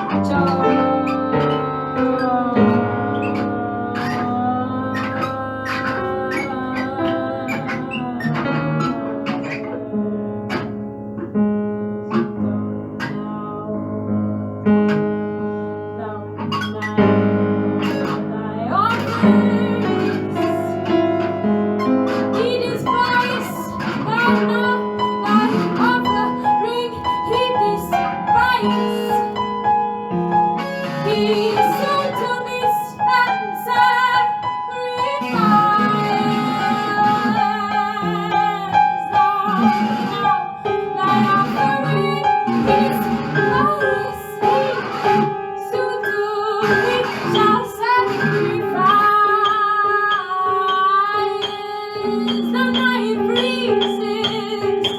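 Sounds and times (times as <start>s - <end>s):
effects-processed guitar: 0.0s - 13.5s, 14.3s - 50.0s
piano: 0.0s - 54.9s.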